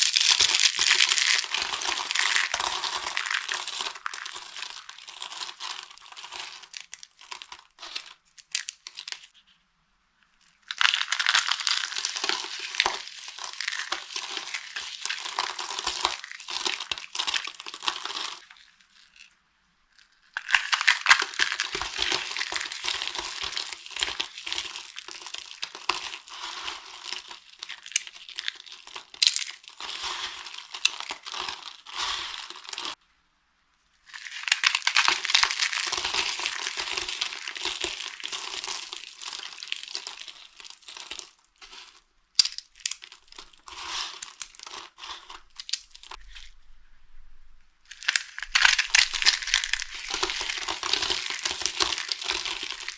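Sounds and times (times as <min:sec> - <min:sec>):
dry soap crushed and crumbling: 0:00.0 - 0:09.4, 0:10.3 - 0:33.0, 0:34.0 - 0:52.9.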